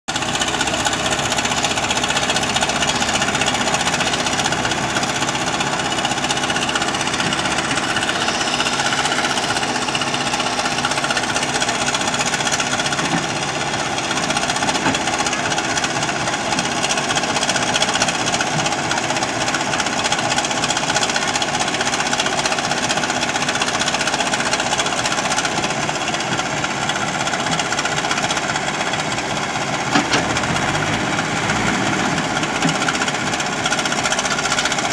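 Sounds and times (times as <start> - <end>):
diesel engine under load: 0.1 - 34.9.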